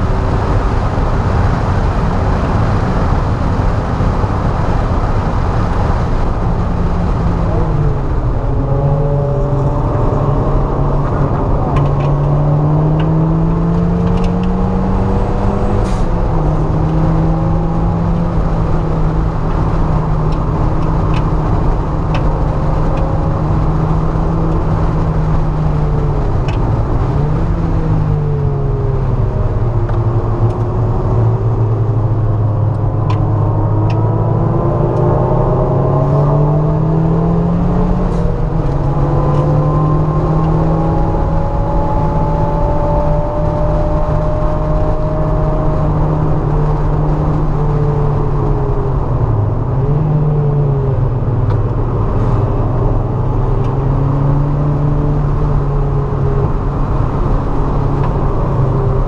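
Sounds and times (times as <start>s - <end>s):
car engine revving in cabin: 0.0s - 59.0s
road noise: 0.0s - 59.0s.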